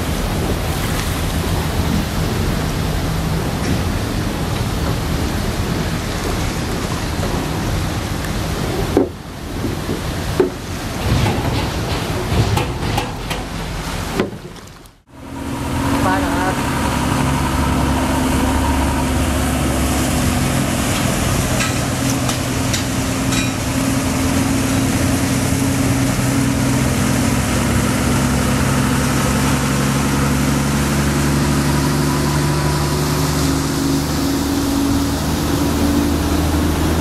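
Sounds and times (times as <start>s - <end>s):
broad rushing noise: 0.0s - 37.0s.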